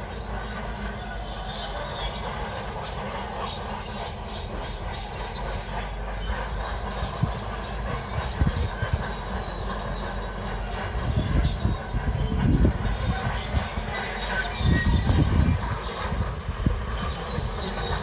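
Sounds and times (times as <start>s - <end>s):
bulldozer engine running: 0.0s - 18.0s
steel tracks squealing and clanking: 0.0s - 18.0s.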